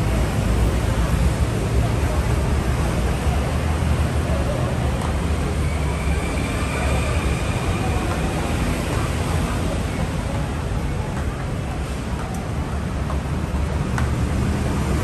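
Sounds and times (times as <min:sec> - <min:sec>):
faint voices: 0:00.0 - 0:15.0
traffic rumble: 0:00.0 - 0:15.0.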